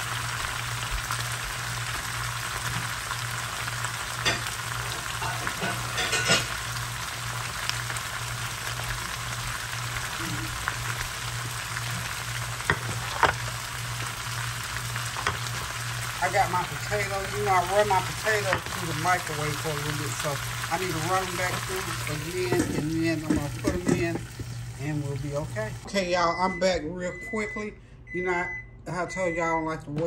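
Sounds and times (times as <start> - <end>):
vegetables sizzling in a skillet: 0.0 - 25.9
low steady hum: 0.0 - 30.0.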